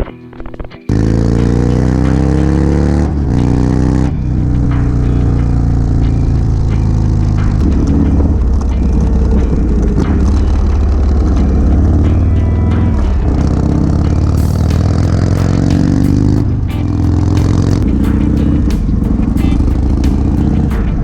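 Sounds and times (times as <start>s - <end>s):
motorcycle engine accelerating: 0.9s - 21.0s.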